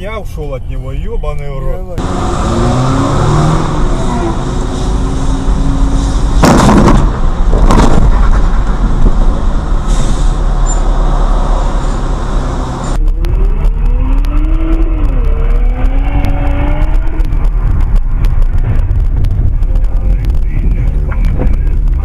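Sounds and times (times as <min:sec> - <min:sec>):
car engine and tyre noise: 0:00.0 - 0:22.0
car accelerating: 0:02.0 - 0:22.0.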